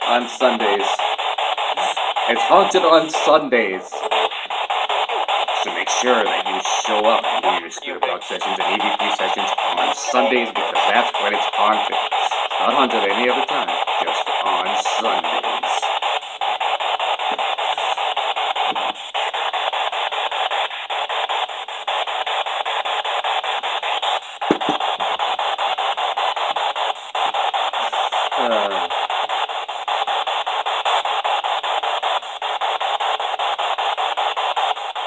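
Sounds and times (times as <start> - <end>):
radio static sweeping: 0.0 - 35.0
snatches of broadcast sound: 0.0 - 35.0.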